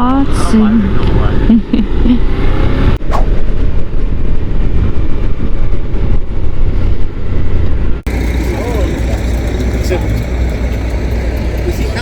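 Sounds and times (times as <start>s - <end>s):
motorcycle engine and road noise: 0.0s - 12.0s
wind buffeting microphone: 2.2s - 12.0s.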